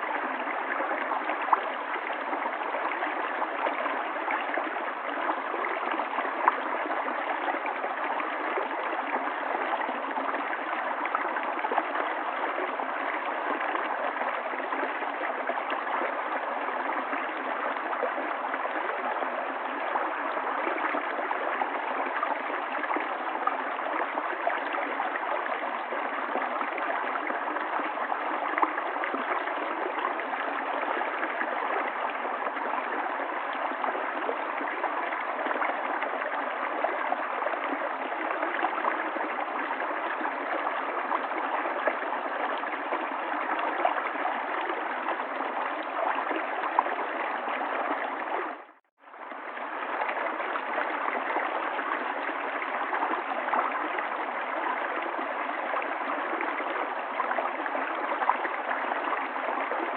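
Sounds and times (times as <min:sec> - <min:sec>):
river water flowing and babbling: 0:00.0 - 0:59.9.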